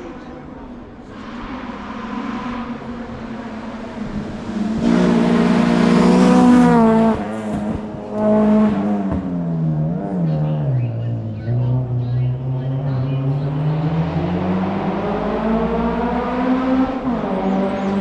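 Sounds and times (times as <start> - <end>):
race car engine passing: 0.1 - 18.0.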